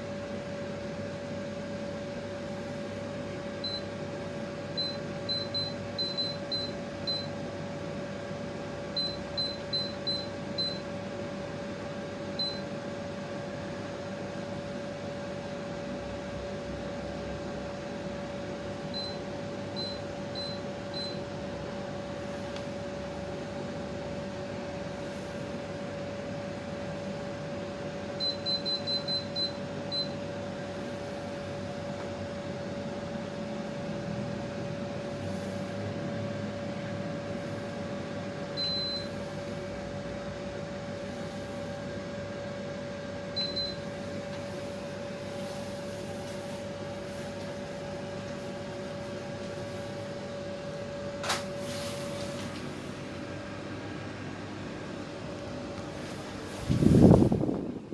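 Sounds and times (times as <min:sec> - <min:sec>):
air conditioner humming: 0:00.0 - 0:57.9.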